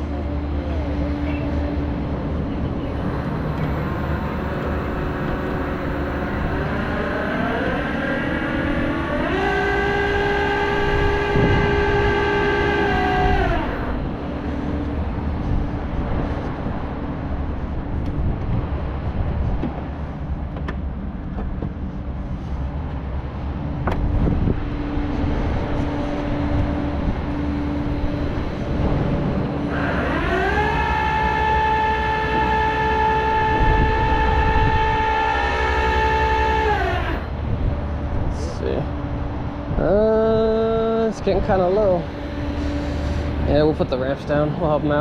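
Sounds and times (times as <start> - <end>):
hydraulic winch pump whining: 0.0 - 22.1, 22.9 - 45.0
tow truck engine hum: 0.0 - 45.0.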